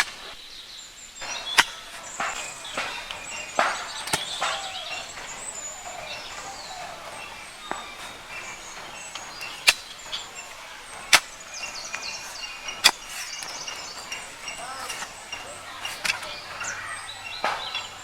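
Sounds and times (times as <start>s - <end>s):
high chirps: 0.0s - 18.0s
sharp knocks: 1.2s - 18.0s.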